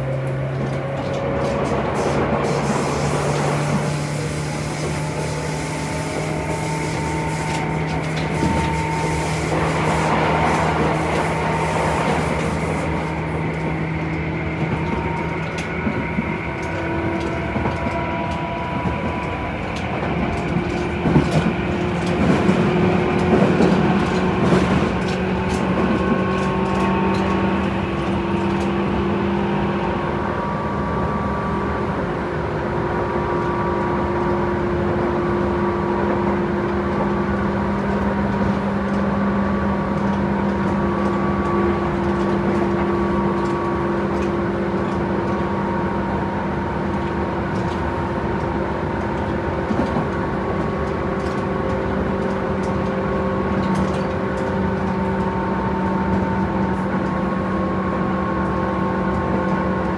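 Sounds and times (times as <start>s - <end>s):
rail-joint clicks and rattles: 0.0s - 29.4s, 36.0s - 59.9s
train wheels and motors rumbling: 0.0s - 59.9s.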